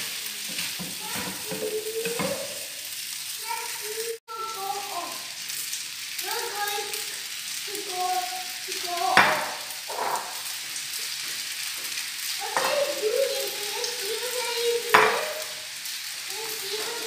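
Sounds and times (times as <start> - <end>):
loud sizzle bursts: 0.0 - 17.0
noodles sizzling in a pan: 0.0 - 17.0.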